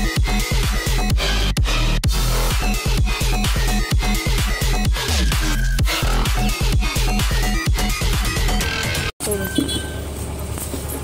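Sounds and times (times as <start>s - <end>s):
electronic dance music: 0.0s - 9.1s.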